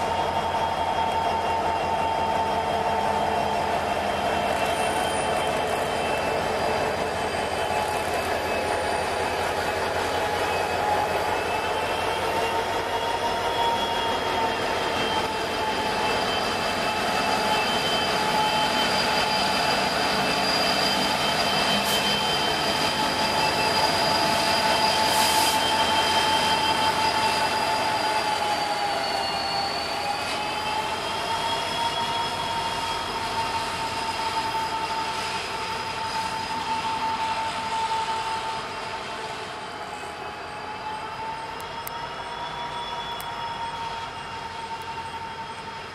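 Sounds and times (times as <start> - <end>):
train wheels squealing on rails: 0.0 - 45.9.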